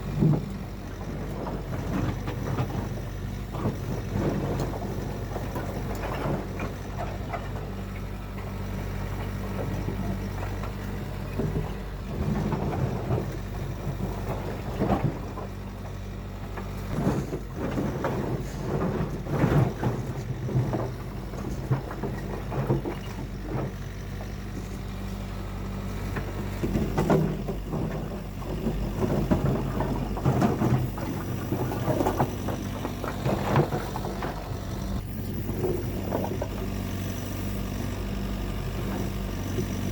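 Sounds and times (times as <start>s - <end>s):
engine running: 0.0s - 39.9s
knocks and clattering: 0.2s - 25.0s, 25.8s - 39.9s.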